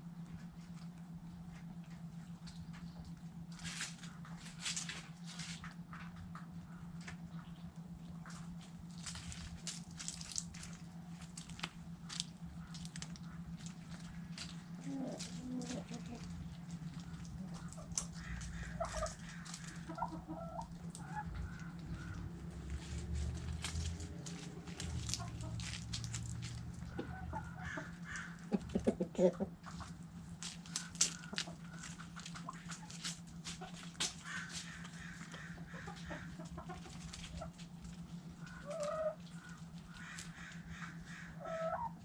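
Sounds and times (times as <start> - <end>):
hens clucking softly: 0.0 - 42.0
steady low hum: 0.0 - 42.0
chickens pecking at food: 0.1 - 42.0.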